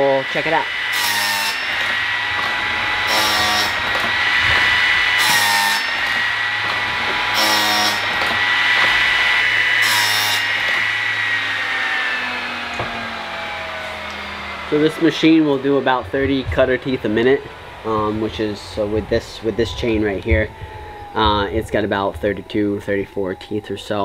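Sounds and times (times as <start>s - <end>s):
grinding motor whine: 0.0s - 24.0s.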